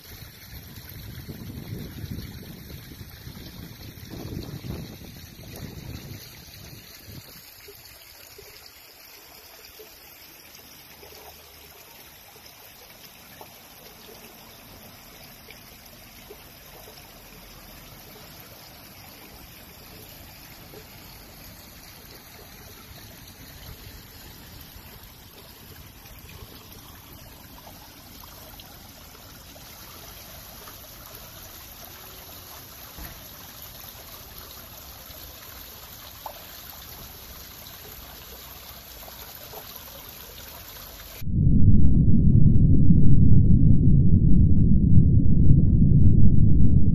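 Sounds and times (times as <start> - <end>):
water running and trickling: 0.0 - 41.2.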